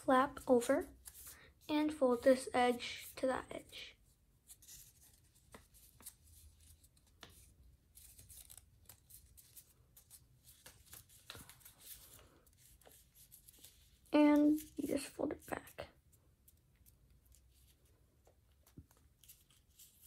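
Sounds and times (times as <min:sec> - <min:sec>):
paper being folded and creased: 0:00.0 - 0:03.8, 0:04.4 - 0:20.0.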